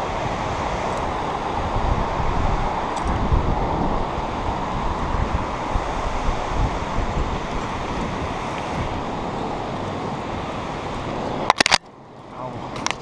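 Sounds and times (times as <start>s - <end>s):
river rapids rushing: 0.0s - 11.7s
wind buffeting microphone: 0.0s - 13.0s.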